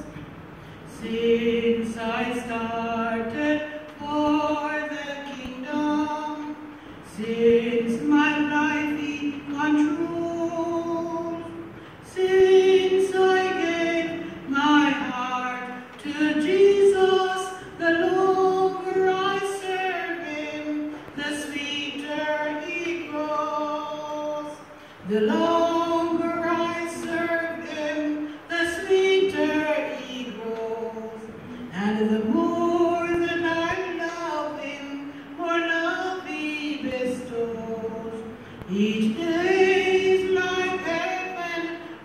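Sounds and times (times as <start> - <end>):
woman singing unaccompanied: 0.0 - 0.2, 0.8 - 42.0.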